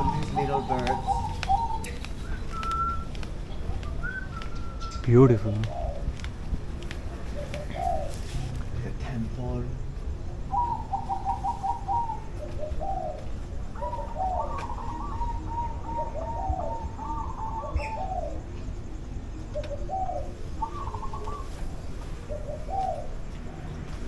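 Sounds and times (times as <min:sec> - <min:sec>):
low background rumble: 0:00.0 - 0:23.6
caged birds warbling: 0:00.0 - 0:24.0.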